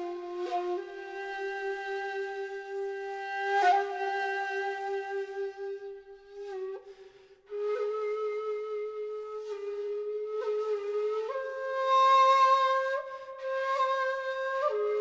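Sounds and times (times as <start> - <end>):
shakuhachi playing long notes: 0.0 - 15.0.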